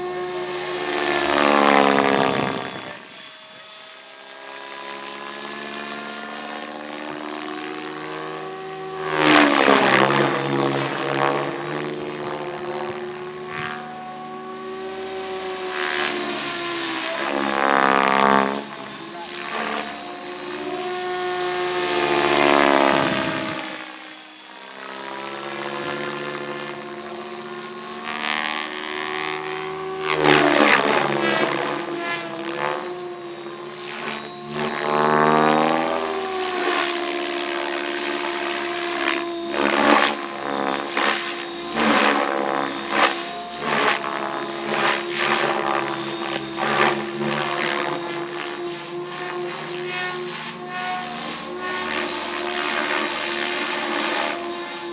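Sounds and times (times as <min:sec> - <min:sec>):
rc helicopter motor whine: 0:00.0 - 0:54.9.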